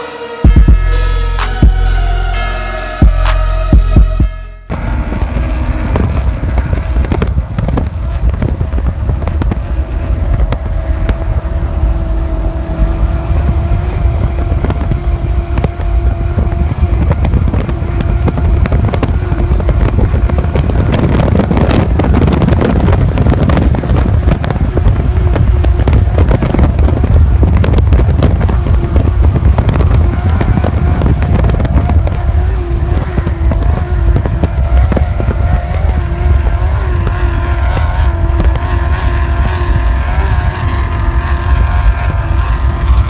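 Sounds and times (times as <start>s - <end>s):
wind buffeting microphone: 4.7s - 43.0s.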